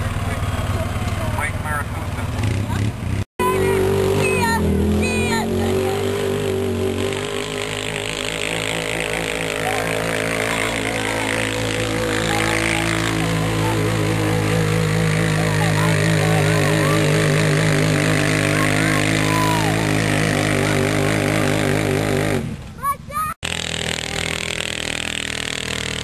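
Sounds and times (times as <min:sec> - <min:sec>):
vehicle engine running: 0:00.0 - 0:22.8, 0:23.4 - 0:26.0.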